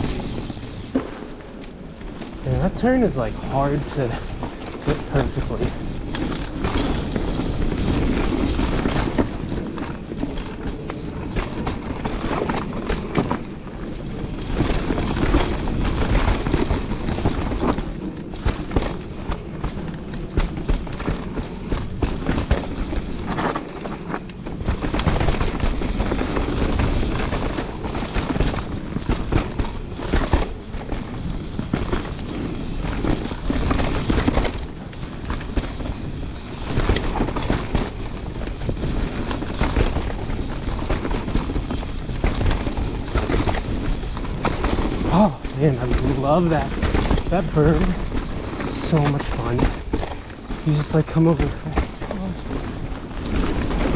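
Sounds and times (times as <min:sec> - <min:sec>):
bike rattling and clattering: 0:00.0 - 0:53.9
bike tyres rolling over dirt: 0:00.0 - 0:53.9.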